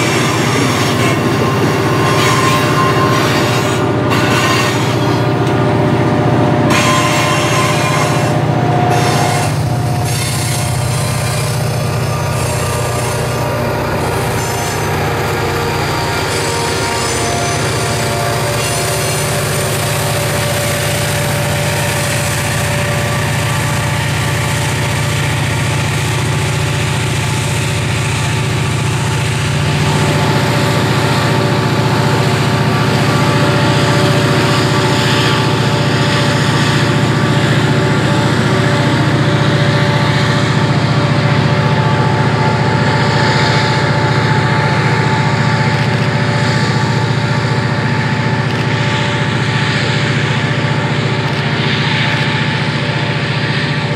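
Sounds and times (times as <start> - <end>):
locomotive engine running: 0.0 - 53.9
train rumbling on rails: 0.0 - 53.9.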